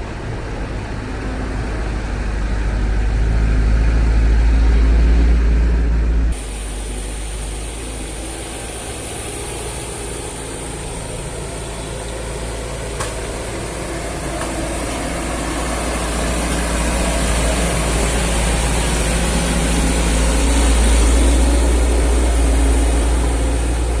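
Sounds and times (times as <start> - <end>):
truck engine rumbling: 0.0 - 24.0.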